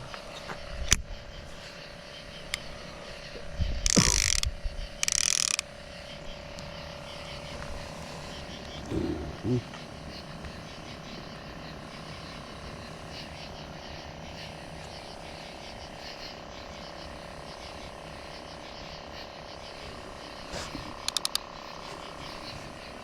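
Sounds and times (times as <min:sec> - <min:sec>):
frogs chirping: 0:00.0 - 0:23.0.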